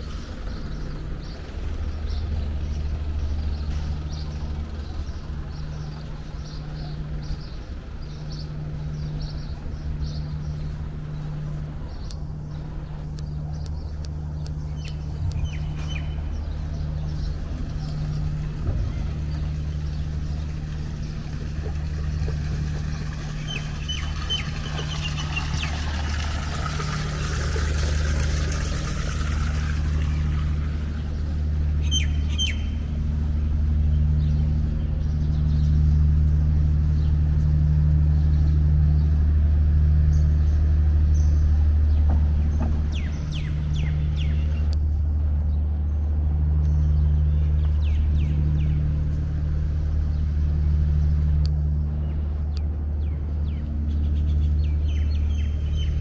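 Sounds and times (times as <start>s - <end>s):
steady low hum: 0.0s - 56.0s
vehicle passing: 0.0s - 56.0s.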